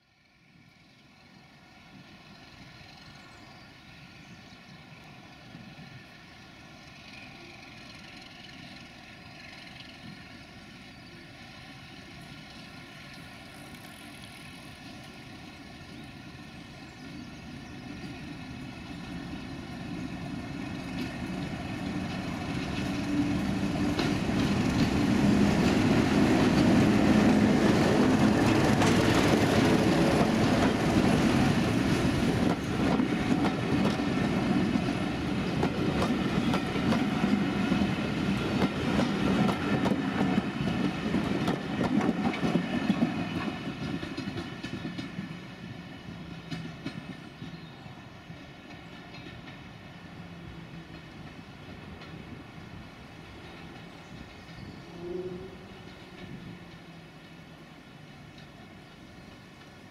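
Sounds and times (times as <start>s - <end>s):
diesel locomotive engine: 0.0s - 59.9s.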